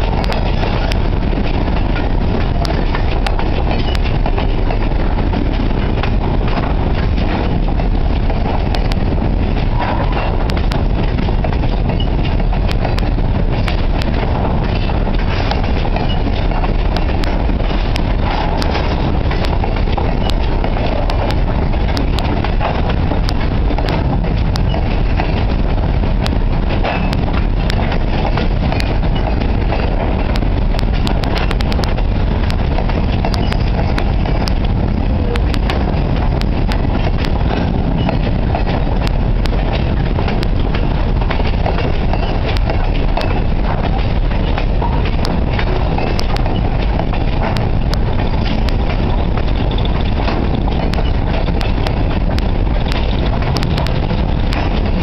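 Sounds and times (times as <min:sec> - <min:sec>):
sharp rail clicks: 0:00.0 - 0:55.0
train wheels rumbling on rail: 0:00.0 - 0:55.0.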